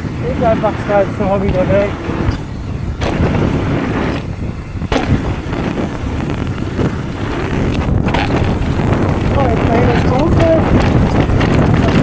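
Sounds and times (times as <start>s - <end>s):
bike rattling over ground: 0.0s - 12.0s
wind buffeting microphone: 0.0s - 12.0s.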